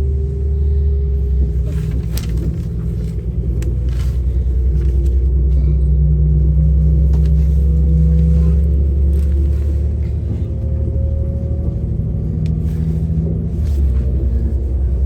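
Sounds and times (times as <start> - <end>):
train engine rumble and drone: 0.0 - 15.0.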